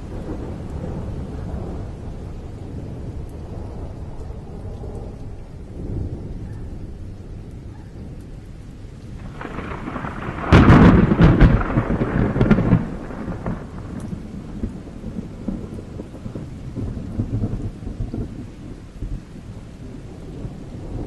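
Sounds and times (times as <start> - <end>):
rain falling: 0.0 - 21.0
thunder crack and rumble: 0.0 - 21.0.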